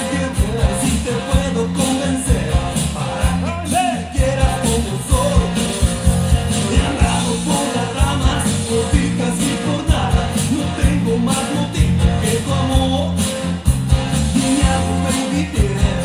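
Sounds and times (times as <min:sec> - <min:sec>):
loud music with bass beat: 0:00.0 - 0:16.0.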